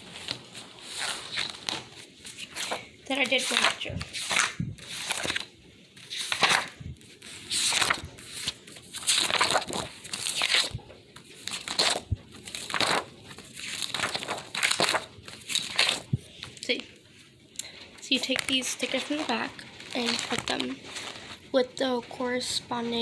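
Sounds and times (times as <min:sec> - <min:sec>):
paper pages rustling: 0:00.0 - 0:21.6.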